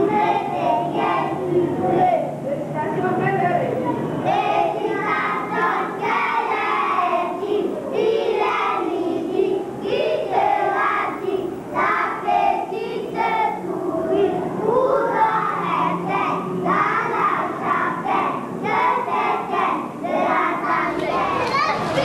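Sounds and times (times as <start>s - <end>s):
children singing in unison: 0.0s - 2.4s, 4.1s - 22.0s.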